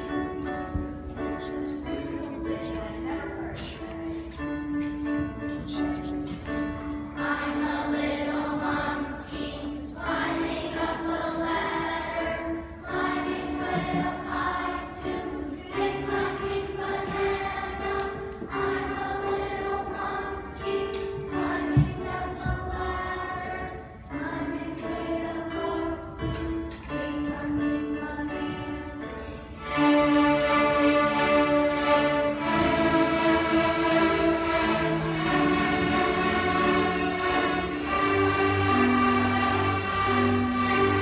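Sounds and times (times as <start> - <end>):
children singing in unison: 6.6 - 41.0.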